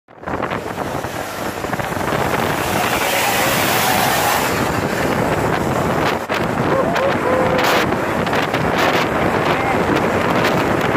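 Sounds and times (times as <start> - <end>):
wind buffeting microphone: 0.1 - 10.9
heavy vehicle passing: 0.2 - 10.9.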